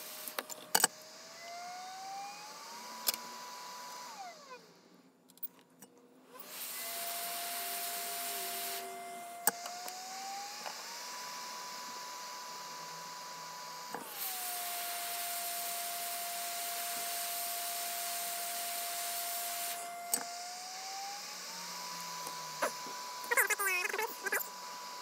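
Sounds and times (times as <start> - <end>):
hot-air station blowing: 0.0 - 4.3, 6.4 - 25.0.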